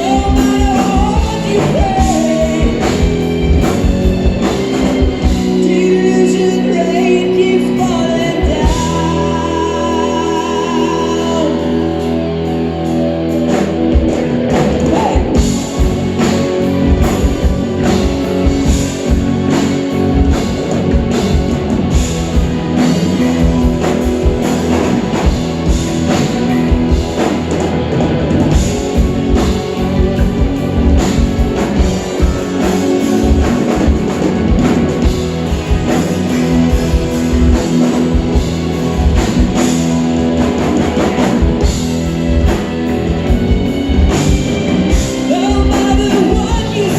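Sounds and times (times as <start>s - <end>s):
drum kit busy beat: 0.0s - 46.9s
electric guitar: 0.0s - 46.9s.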